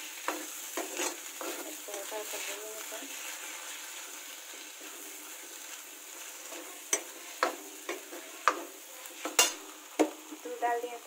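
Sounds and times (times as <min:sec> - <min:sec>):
pearls sizzling in a pan: 0:00.0 - 0:11.0
spoon scraping a metal pan: 0:00.2 - 0:09.6.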